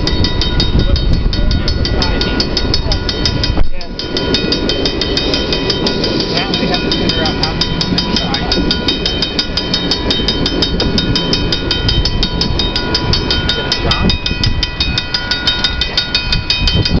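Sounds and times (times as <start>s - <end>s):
crossing warning bell ringing: 0.0s - 17.0s
train cars rumbling past: 0.0s - 17.0s.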